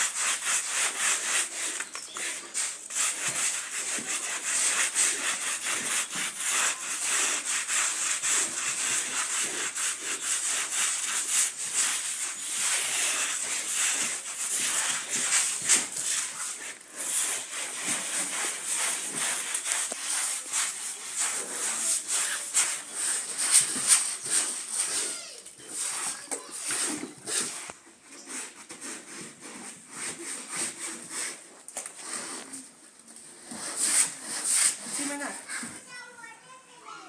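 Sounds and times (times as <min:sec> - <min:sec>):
wet carpet scrubbed by hand: 0:00.0 - 0:32.6, 0:33.2 - 0:35.6.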